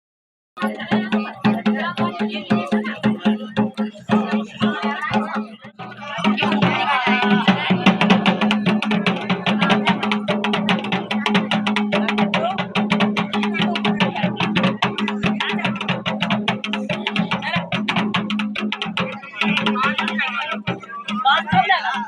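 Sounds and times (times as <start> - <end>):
folk drums playing fast: 0.6 - 22.0.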